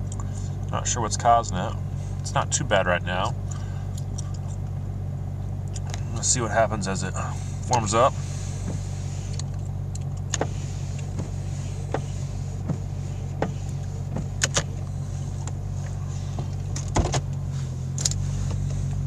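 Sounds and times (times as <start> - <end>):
car engine idling roughly: 0.0 - 19.0.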